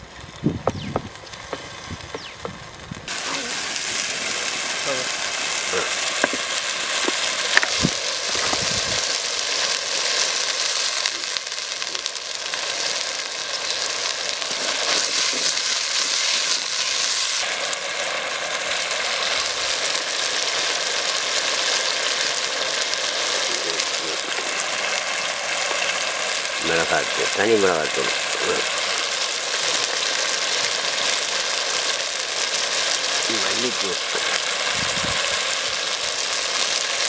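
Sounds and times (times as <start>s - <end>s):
onions frying in a pot: 0.0s - 37.0s.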